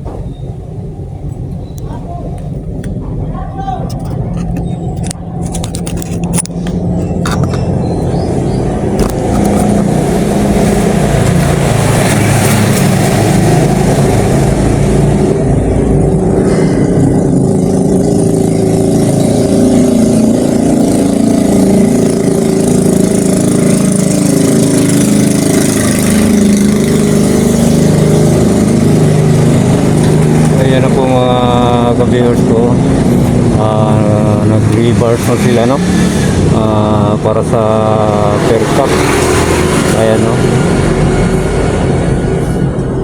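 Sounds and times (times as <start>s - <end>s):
vehicle engine running loud: 0.0s - 43.0s.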